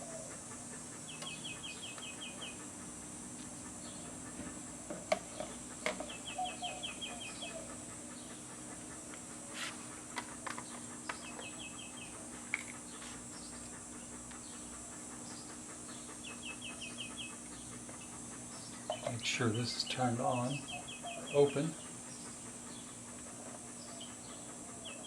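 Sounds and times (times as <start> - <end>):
bird chirping: 0.0 - 25.0
steady high hiss: 0.0 - 25.0.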